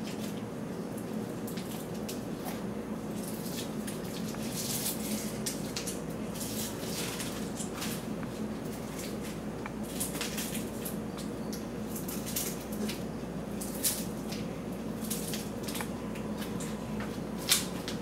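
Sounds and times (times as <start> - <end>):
crackling rustles in wicker basket: 0.0 - 18.0
steady low hum: 0.0 - 18.0.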